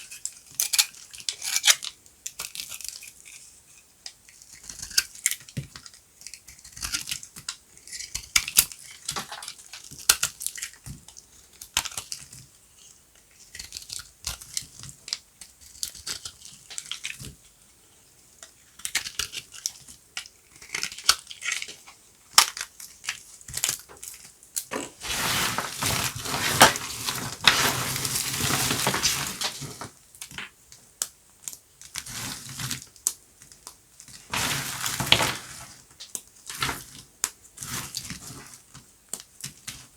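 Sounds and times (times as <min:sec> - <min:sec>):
bar soap crunching and crackling: 0:00.0 - 0:39.9.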